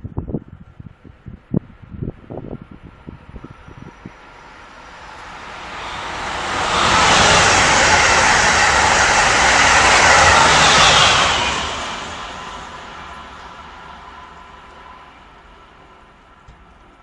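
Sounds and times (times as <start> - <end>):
passenger train passing at speed: 1.0 - 17.0.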